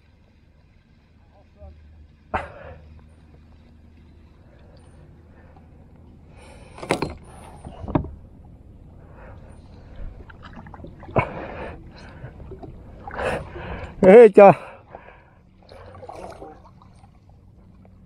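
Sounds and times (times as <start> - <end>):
moving water: 0.0 - 18.0
water splashing against kayak: 0.0 - 18.0.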